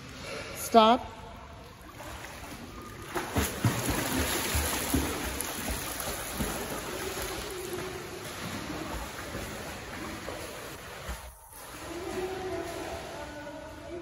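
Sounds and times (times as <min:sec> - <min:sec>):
swimmer splashing in a pool: 0:01.6 - 0:14.0.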